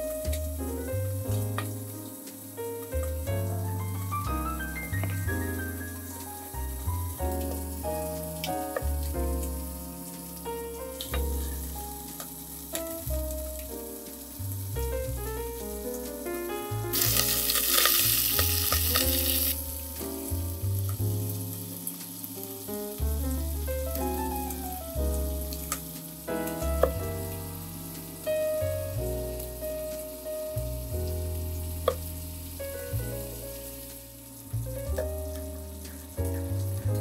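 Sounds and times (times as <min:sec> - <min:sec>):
background piano music: 0:00.0 - 0:37.0
bacon and sausage sizzling: 0:00.0 - 0:37.0.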